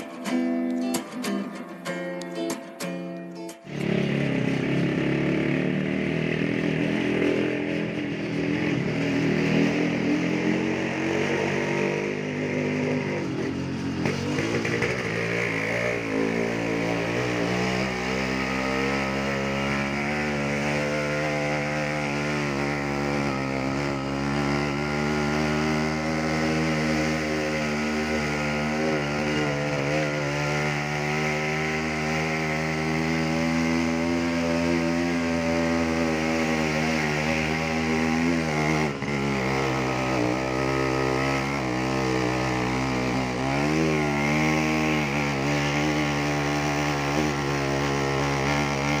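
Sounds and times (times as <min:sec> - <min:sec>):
small motorcycle engine running: 0:03.6 - 0:49.0.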